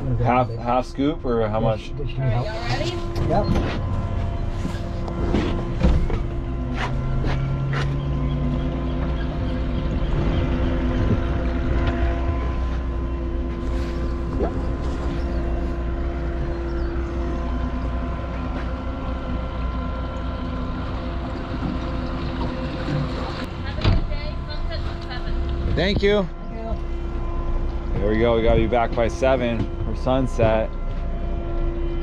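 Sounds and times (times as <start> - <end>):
outboard motor running: 0.0 - 32.0.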